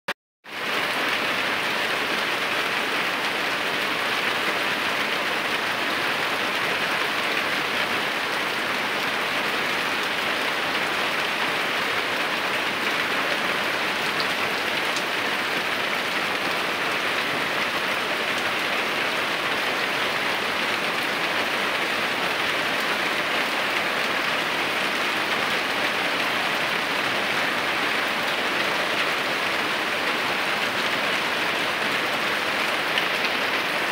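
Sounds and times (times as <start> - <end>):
rain splashing into water: 0.5 - 33.9.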